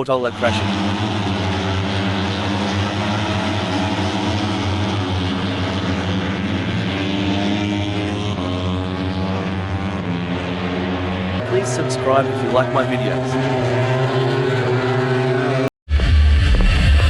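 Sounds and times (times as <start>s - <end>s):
racing motorcycle engines high revs: 0.0s - 15.7s.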